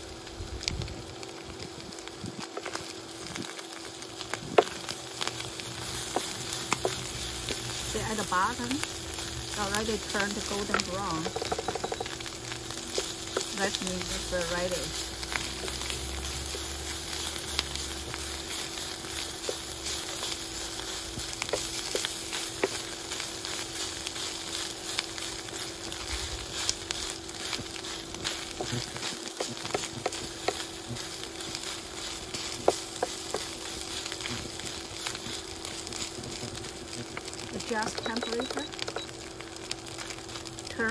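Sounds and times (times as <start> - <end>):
meat sizzling in a frying pan: 0.0 - 40.9
steady hum: 3.2 - 40.9.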